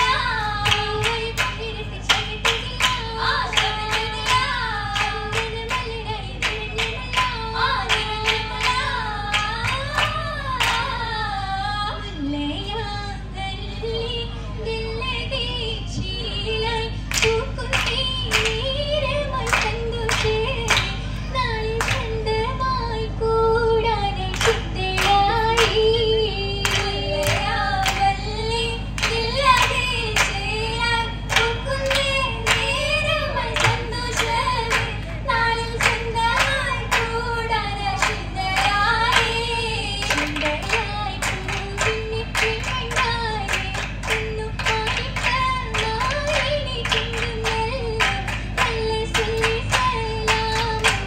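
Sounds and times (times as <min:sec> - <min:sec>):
rhythmic hand claps: 0:00.0 - 0:12.9, 0:15.1 - 0:51.0
women singing together: 0:00.0 - 0:51.0.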